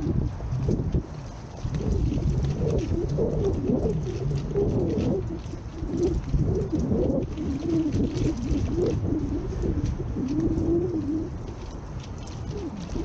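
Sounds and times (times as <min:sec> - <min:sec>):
pigeons cooing: 0:01.0 - 0:13.0.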